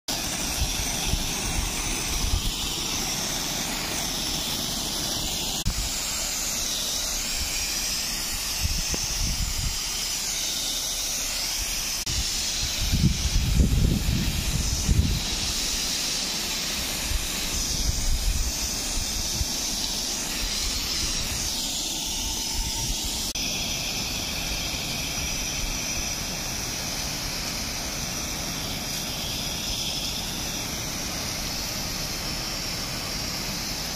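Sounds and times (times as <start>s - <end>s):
high-pressure spray hissing: 0.1s - 33.9s.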